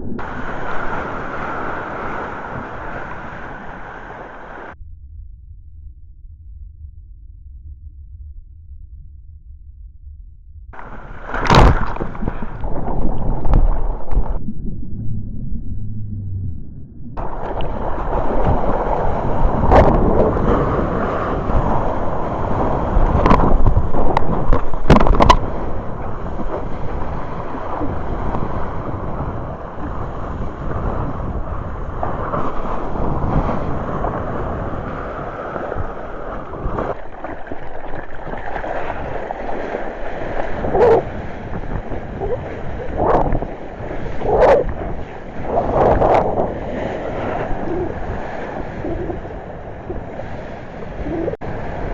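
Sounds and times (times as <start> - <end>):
ocean surf: 0.0 - 4.8, 10.8 - 14.4, 17.2 - 51.9
wind on microphone: 0.0 - 4.8, 10.8 - 37.0, 38.1 - 51.9.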